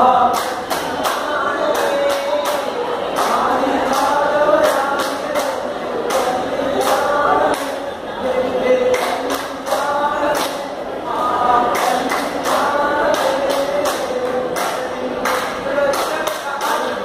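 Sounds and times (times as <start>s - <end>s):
rhythmic hand claps: 0.0s - 8.0s, 8.6s - 17.0s
men singing unaccompanied: 0.0s - 17.0s.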